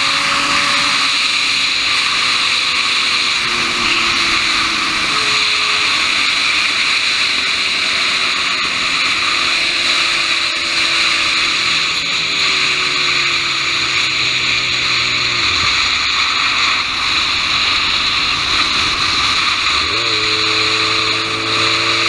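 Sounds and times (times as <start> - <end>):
motorcycle engine at speed: 0.0 - 22.0.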